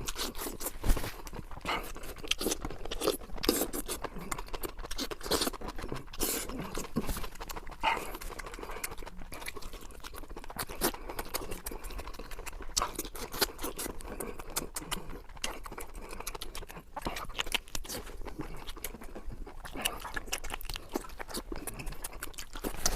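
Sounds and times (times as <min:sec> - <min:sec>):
chewing and mouth noises: 0:00.0 - 0:22.9.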